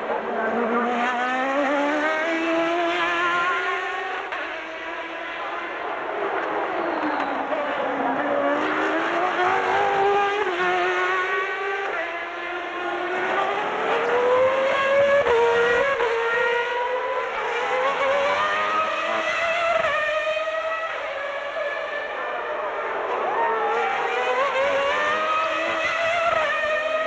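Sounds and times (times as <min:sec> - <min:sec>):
racing car engines at high revs: 0:00.0 - 0:27.0.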